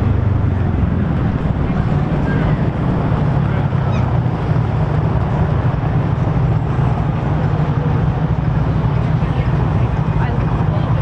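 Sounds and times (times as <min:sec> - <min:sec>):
low engine drone: 0:00.0 - 0:11.0
rushing noise: 0:00.0 - 0:11.0.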